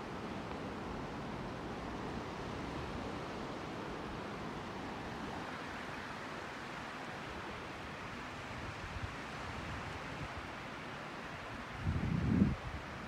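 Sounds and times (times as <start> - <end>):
small waves on a sandy beach: 0.0 - 13.0.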